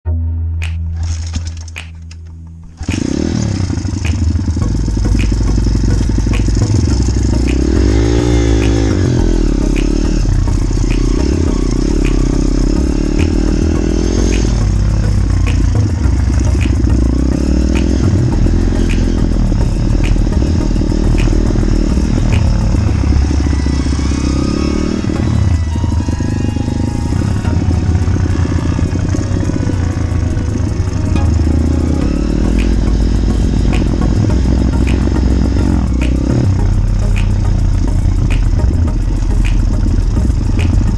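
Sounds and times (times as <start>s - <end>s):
low rumble: 0.1s - 40.9s.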